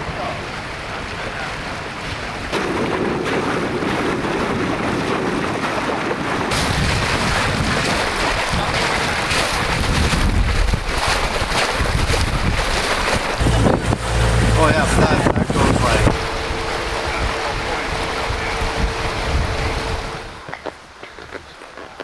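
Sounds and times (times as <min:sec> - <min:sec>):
water rushing along hull: 0:00.0 - 0:21.0
wind buffeting microphone: 0:02.2 - 0:21.4.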